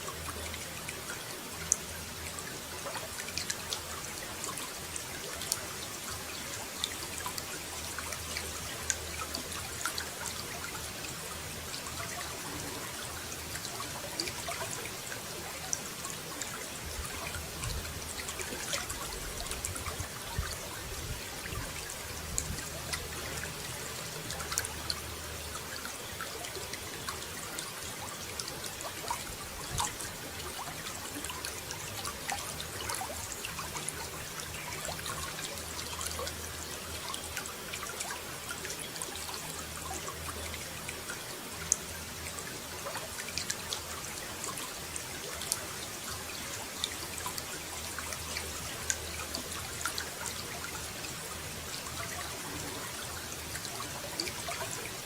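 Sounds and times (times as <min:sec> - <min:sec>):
water running and splashing: 0:02.7 - 0:55.0.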